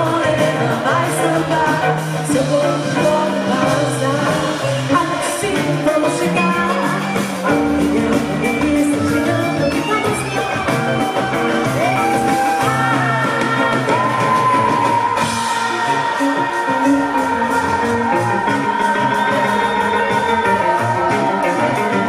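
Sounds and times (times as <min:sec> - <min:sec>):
drums: 0:00.0 - 0:22.0
woman singing long gliding notes: 0:00.0 - 0:22.0.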